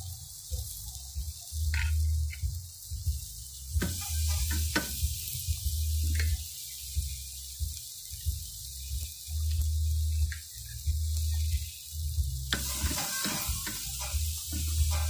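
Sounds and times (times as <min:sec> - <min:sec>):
low rumble: 0:00.0 - 0:12.6
crackling pops on coals: 0:00.0 - 0:14.0
meat sizzling on a grill: 0:00.0 - 0:15.0.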